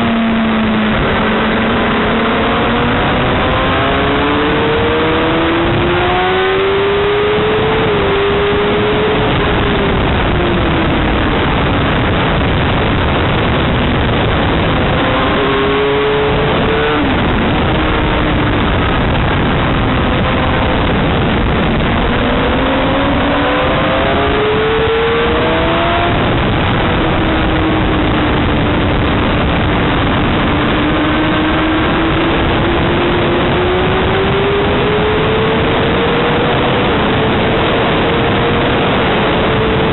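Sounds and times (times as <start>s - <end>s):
loud steady rushing noise: 0.0s - 39.9s
motorcycle engine revving: 0.0s - 39.9s.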